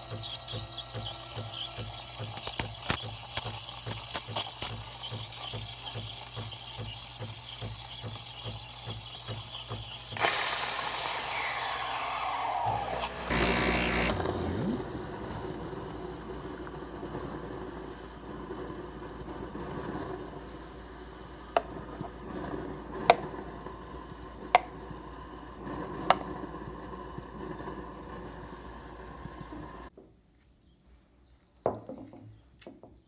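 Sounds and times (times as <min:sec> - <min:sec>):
espresso steam wand hissing: 0:00.0 - 0:29.9.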